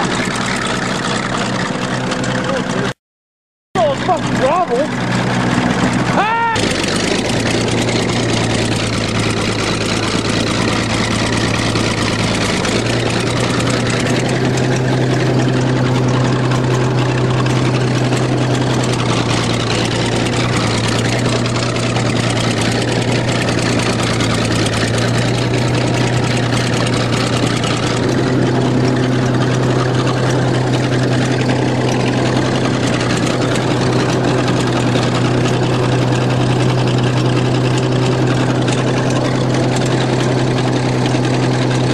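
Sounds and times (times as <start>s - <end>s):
heavy engine running: 0.0s - 3.0s, 3.8s - 41.9s.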